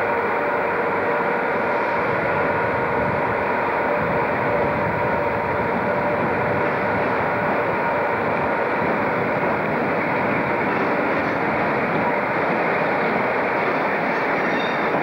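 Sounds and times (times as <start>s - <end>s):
electric locomotive hum and whine: 0.0s - 15.0s.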